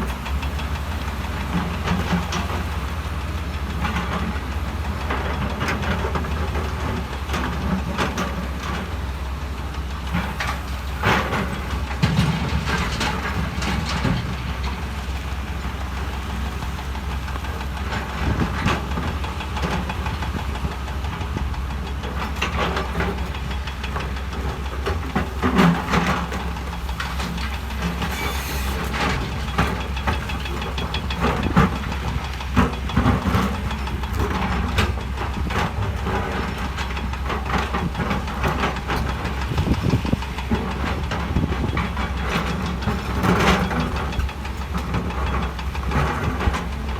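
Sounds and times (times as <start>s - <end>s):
diesel machinery engine rumble: 0.0s - 46.9s.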